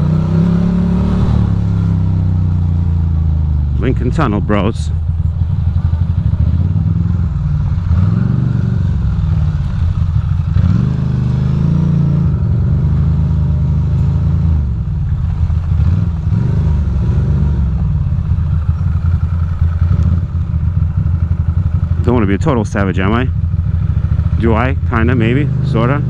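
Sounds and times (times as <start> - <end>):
motorcycle engine at low revs: 0.0 - 26.0
motorcycle throttle blips: 0.0 - 26.0.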